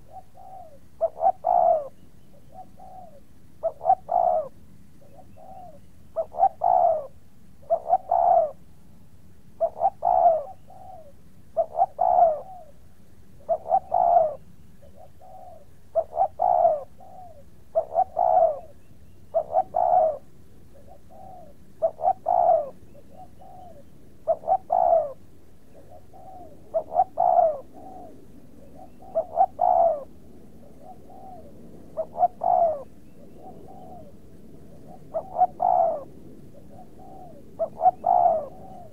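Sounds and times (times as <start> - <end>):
bird calling: 0.0 - 8.6, 9.6 - 12.8, 13.4 - 38.9.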